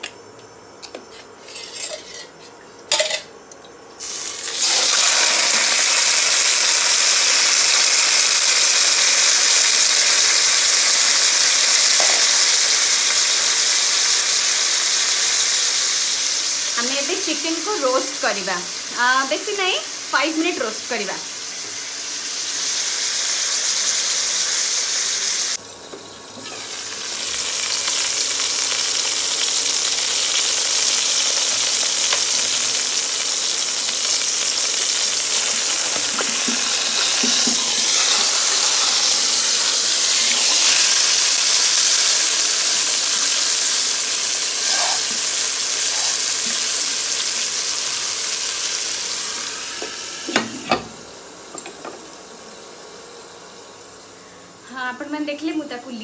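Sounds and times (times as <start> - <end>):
chicken sizzling in hot fat: 4.0 - 56.0.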